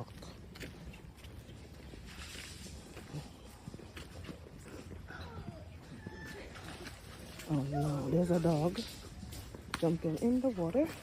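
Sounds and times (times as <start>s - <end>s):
footsteps on woodland path: 0.0s - 11.0s.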